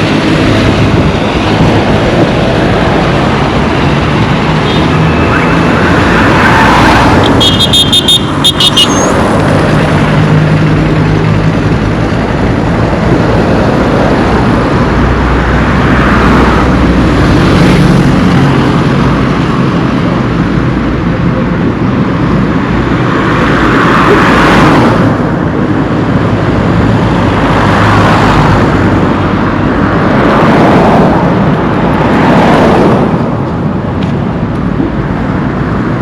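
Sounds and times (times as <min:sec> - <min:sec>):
vehicles passing: 0:00.0 - 0:36.0.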